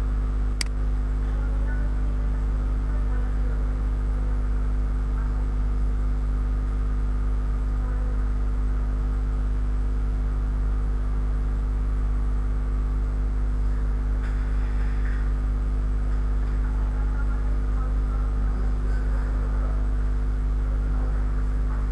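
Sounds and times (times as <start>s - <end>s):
electrical mains hum: 0.0s - 21.9s.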